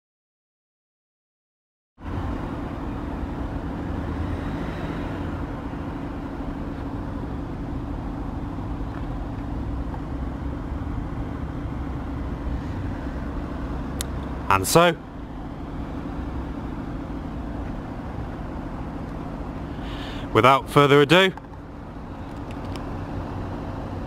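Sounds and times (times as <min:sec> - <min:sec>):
vehicle engine idling: 0:02.0 - 0:24.0.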